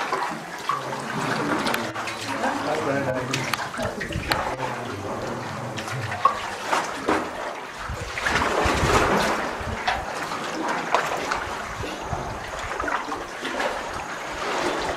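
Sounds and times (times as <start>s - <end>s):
paddles splashing: 0.0s - 14.9s
water lapping around canoe: 0.0s - 14.9s.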